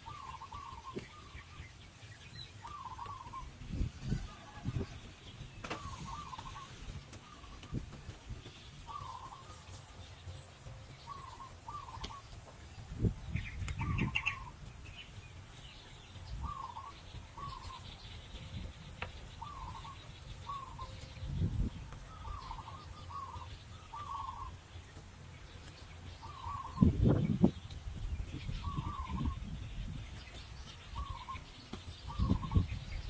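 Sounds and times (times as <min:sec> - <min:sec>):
birds calling: 0:00.0 - 0:33.0.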